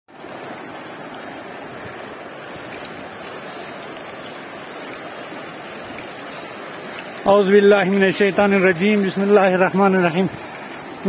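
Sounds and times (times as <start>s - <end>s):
floodwater rushing: 0.1s - 11.0s.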